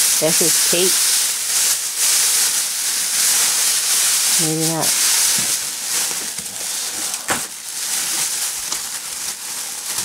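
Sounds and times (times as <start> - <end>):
packaging rustling and crinkling: 1.6 - 10.0.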